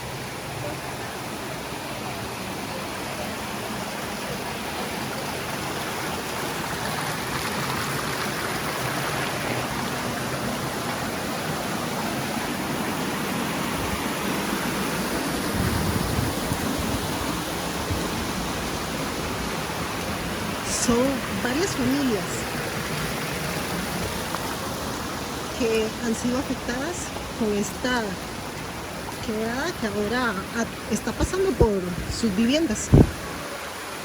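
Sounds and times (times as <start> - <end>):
fast-flowing creek rushing: 0.0 - 34.0.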